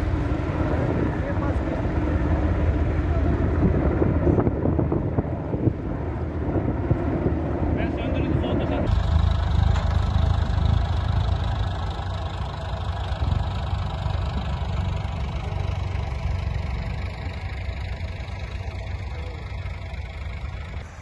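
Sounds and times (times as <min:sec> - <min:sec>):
large engine rumbling: 0:00.0 - 0:21.0.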